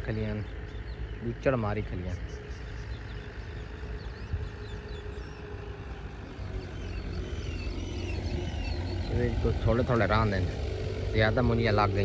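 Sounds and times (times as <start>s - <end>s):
birds chirping: 0.0s - 12.0s
low rumble: 2.1s - 12.0s.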